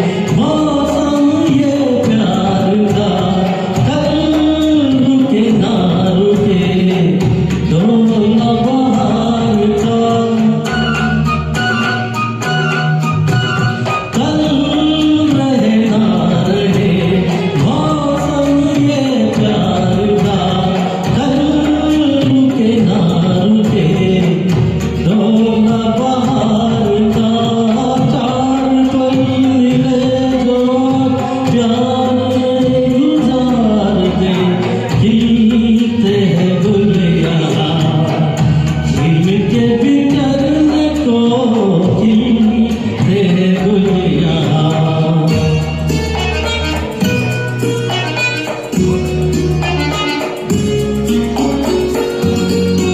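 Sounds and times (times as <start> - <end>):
karaoke backing track: 0.0 - 52.9
man singing: 0.0 - 52.9.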